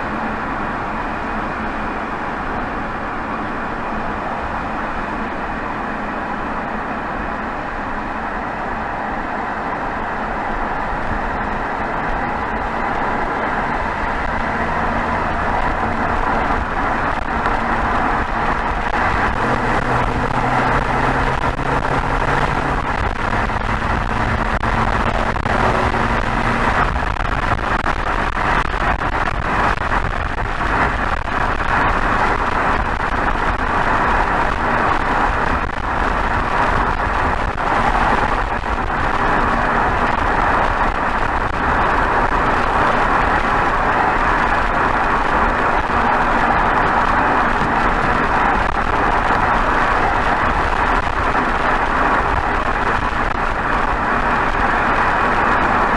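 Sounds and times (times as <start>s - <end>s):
wind and tyre noise: 0.0s - 55.9s
low car exhaust note: 10.6s - 55.9s.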